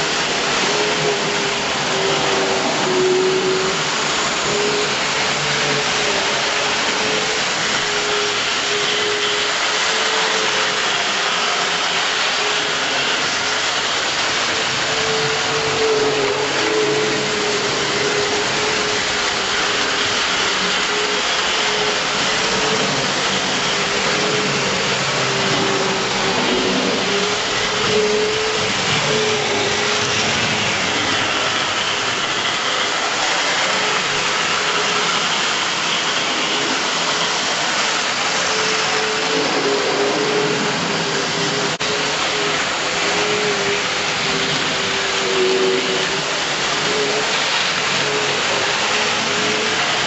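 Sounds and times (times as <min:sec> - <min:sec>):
model train motors whirring: 0:00.0 - 0:50.0.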